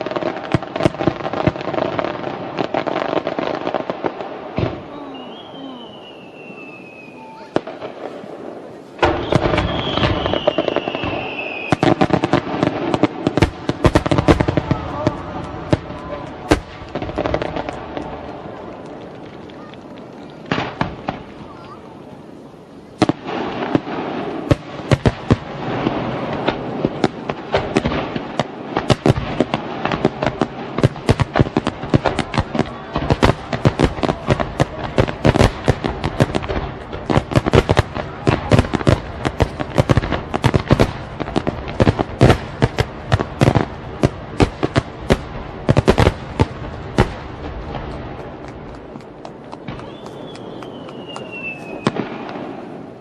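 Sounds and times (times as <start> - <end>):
fireworks bangs and cracks: 0.0 - 53.0.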